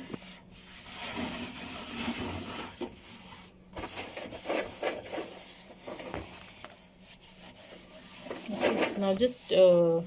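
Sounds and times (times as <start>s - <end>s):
cloth scrubbing inside microwave: 0.0s - 10.0s.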